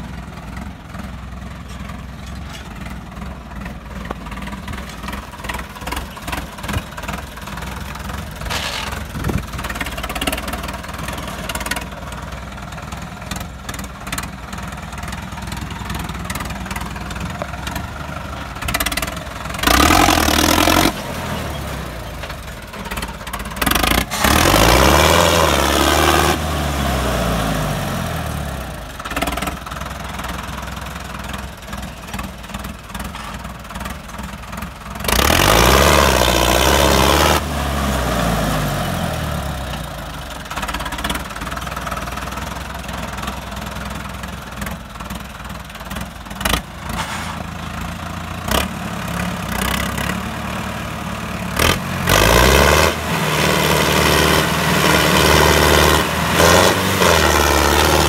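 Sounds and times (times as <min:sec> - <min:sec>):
tractor diesel engine revving: 0:00.0 - 0:58.0.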